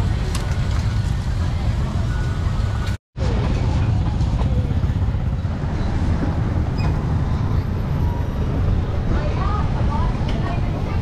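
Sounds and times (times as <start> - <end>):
motor traffic rumble: 0.0 - 11.0
motorbikes and cars passing: 0.0 - 11.0.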